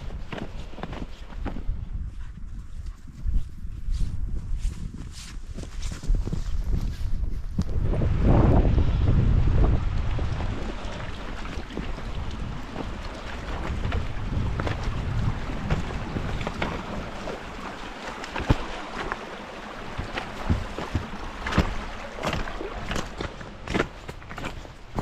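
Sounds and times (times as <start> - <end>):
footsteps crunching through snow: 0.0 - 8.0, 11.6 - 25.0
wind buffeting microphone: 0.0 - 25.0.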